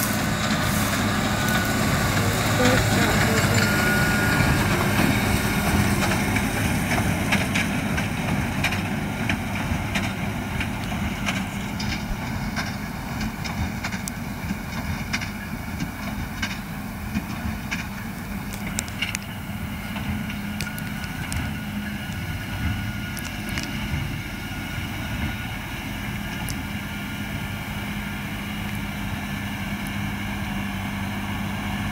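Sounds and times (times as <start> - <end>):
tractor and baler machinery hum: 0.0 - 31.9.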